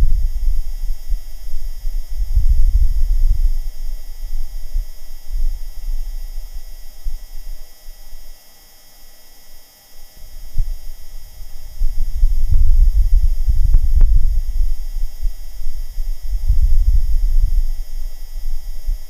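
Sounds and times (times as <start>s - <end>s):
wind buffeting microphone: 0.0s - 8.2s, 10.2s - 19.0s.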